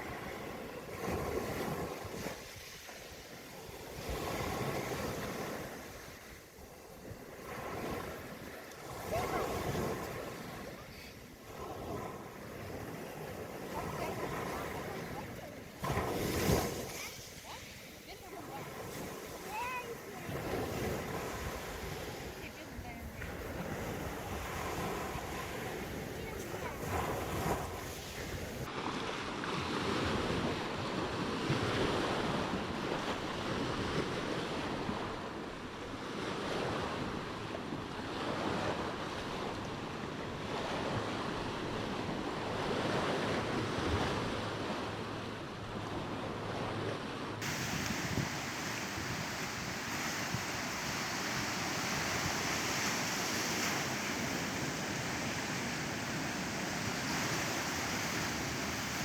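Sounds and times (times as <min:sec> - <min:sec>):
ocean surf: 0:00.0 - 0:59.0
wind: 0:00.0 - 0:59.0.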